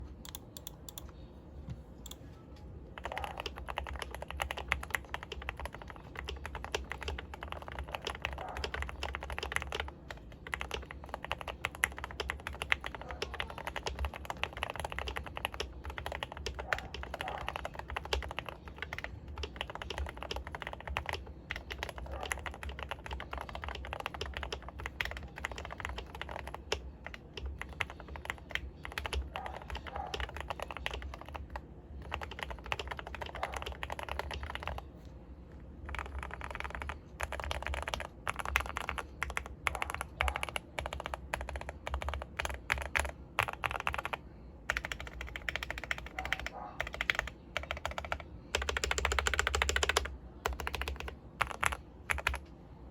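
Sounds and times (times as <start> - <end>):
mechanical keyboard typing: 0.2 - 1.0, 2.9 - 34.9, 35.8 - 52.5.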